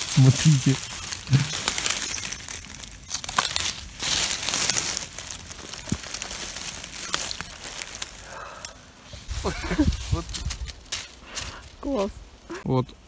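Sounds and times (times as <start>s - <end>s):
rustling dry needles and leaves: 0.0s - 13.0s.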